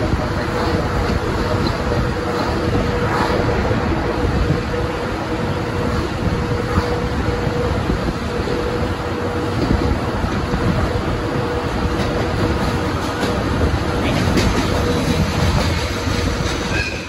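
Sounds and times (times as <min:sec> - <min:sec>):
passenger train running: 0:00.0 - 0:17.0.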